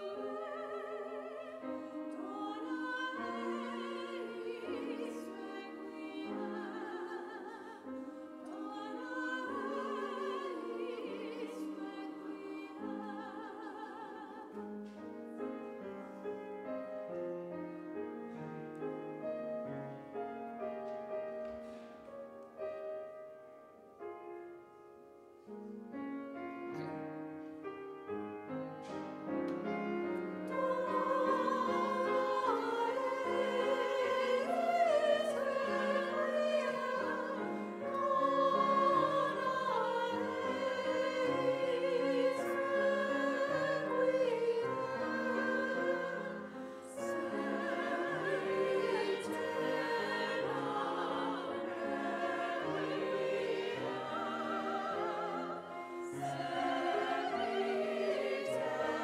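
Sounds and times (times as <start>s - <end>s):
women's choir singing: 0.0s - 22.7s, 28.0s - 59.0s
piano: 0.0s - 59.0s.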